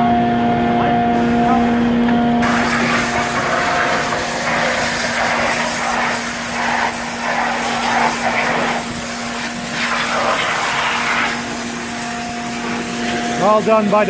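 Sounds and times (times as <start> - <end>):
air and water rushing through hose: 0.0 - 14.0
vacuum truck whine: 0.0 - 14.0.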